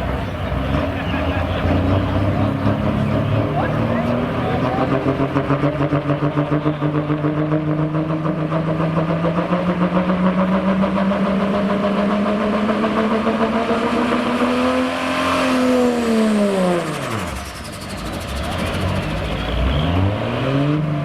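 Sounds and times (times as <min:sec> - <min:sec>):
pickup truck engine at full throttle: 0:00.0 - 0:21.0.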